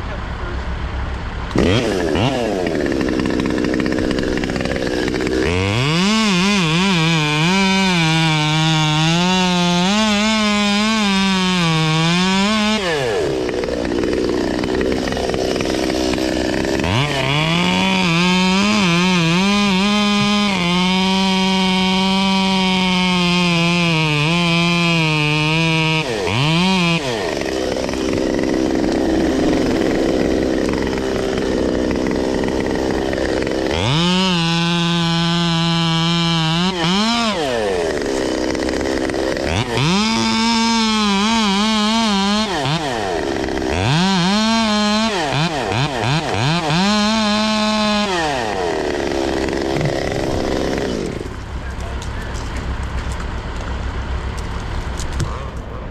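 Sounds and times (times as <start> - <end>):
chainsaw revving cutting wood: 1.5 - 55.4.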